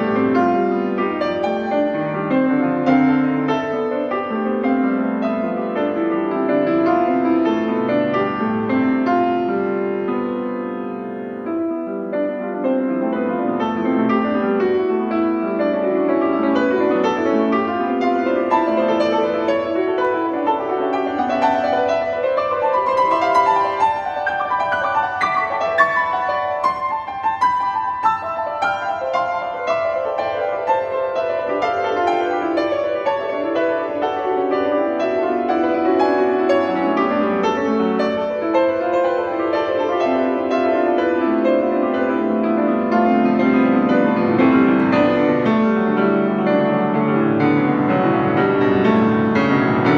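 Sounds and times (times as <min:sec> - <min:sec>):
grand piano playing quick notes: 0:00.0 - 0:49.9.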